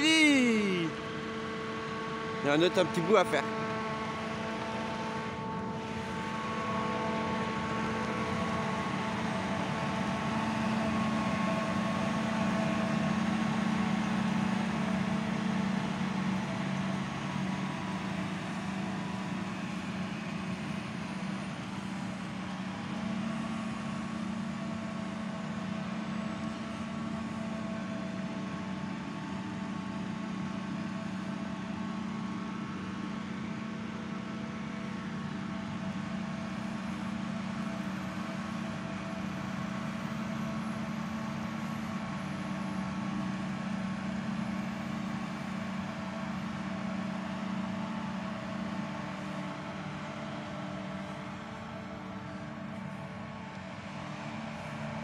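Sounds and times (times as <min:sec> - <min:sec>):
forage harvester engine drone: 0:00.0 - 0:55.0.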